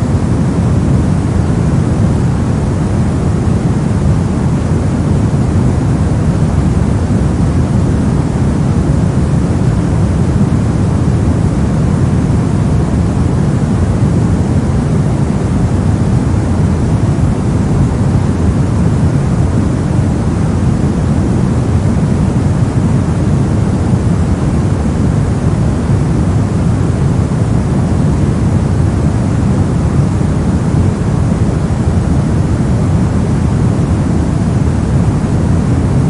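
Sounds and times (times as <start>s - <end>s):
low rumbling noise hiss: 0.0s - 36.0s.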